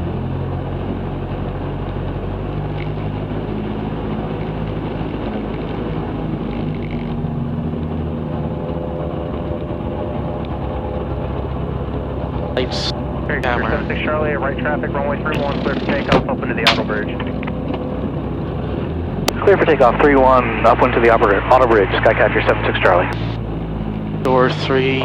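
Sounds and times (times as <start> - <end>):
light aircraft engine and propeller: 0.0 - 25.0.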